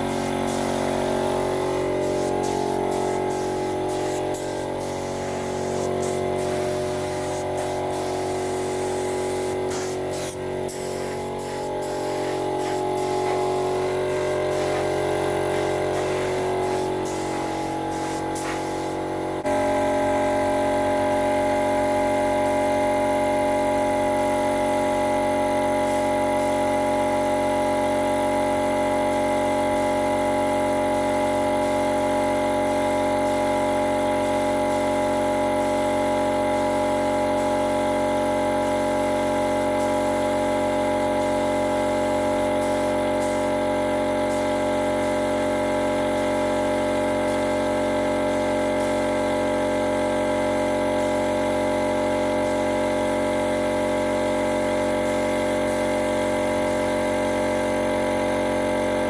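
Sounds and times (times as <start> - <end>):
motor humming steadily: 0.0 - 49.2.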